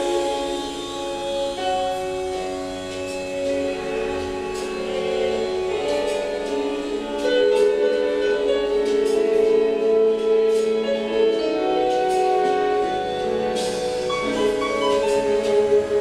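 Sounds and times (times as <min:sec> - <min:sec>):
slow held music chords: 0:00.0 - 0:16.0.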